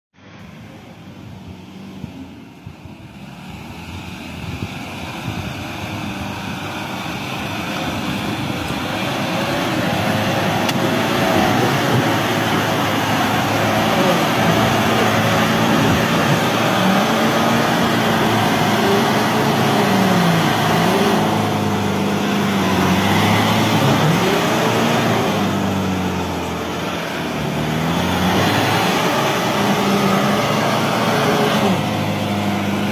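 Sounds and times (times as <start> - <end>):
diesel engine labouring: 0.2 - 32.9.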